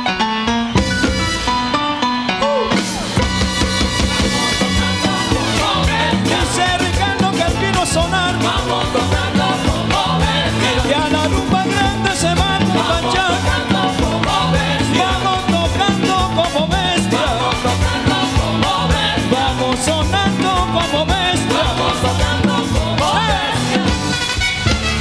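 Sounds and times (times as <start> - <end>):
live salsa band: 0.0 - 25.0.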